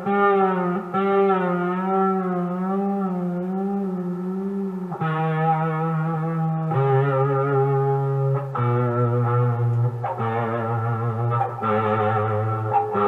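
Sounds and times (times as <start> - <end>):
overdriven electric guitar notes: 0.0 - 13.0.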